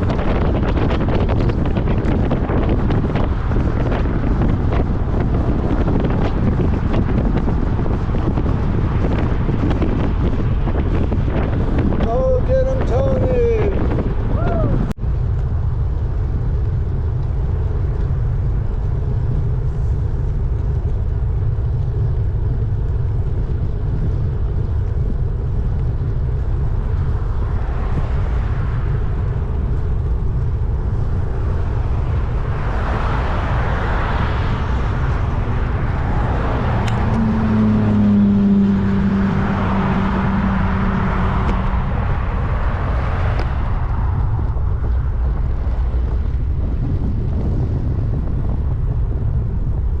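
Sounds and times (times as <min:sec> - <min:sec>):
vehicles passing: 0:00.0 - 0:50.0
wind rumble on microphone: 0:00.0 - 0:50.0.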